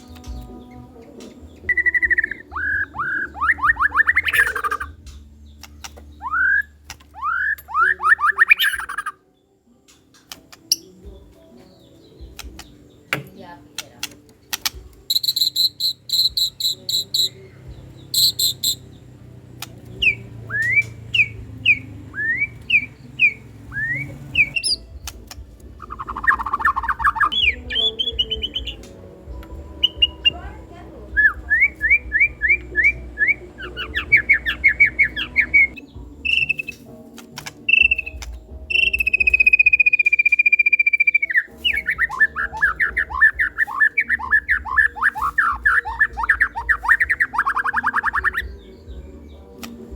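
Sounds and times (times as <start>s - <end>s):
songbird singing varied song: 0.0s - 49.9s.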